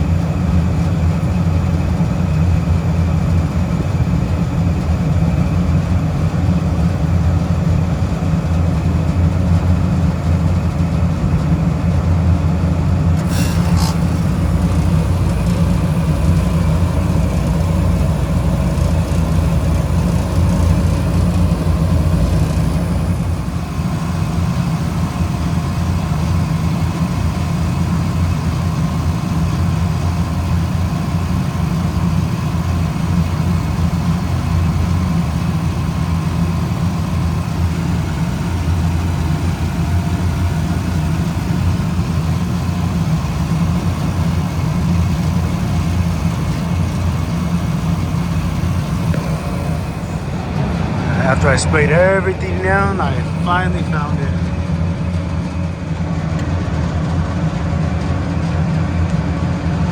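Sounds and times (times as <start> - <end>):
refrigeration equipment humming: 0.0 - 56.4.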